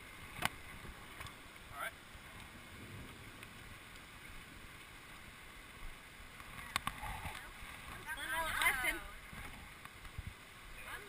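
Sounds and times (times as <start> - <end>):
low wind rumble: 0.0 - 10.9.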